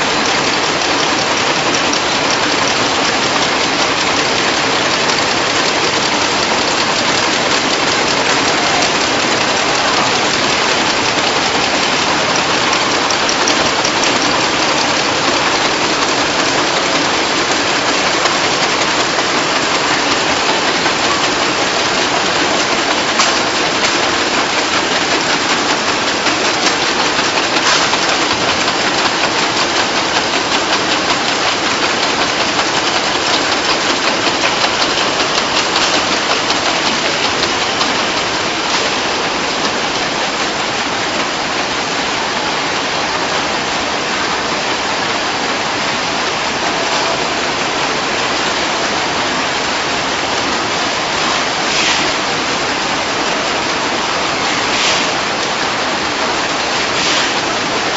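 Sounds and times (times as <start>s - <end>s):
factory machinery din: 0.0s - 57.9s
rapid machine clatter: 0.0s - 57.9s.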